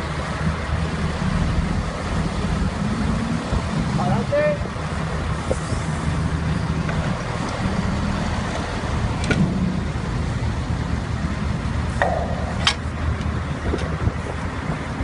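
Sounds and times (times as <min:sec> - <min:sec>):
machinery engine rumble: 0:00.0 - 0:15.0
wind noise: 0:00.0 - 0:15.0.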